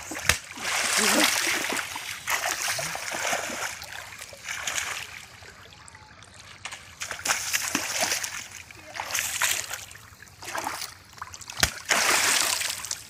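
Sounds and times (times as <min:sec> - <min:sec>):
bare feet splashing through water: 0:00.0 - 0:05.6, 0:06.5 - 0:13.0.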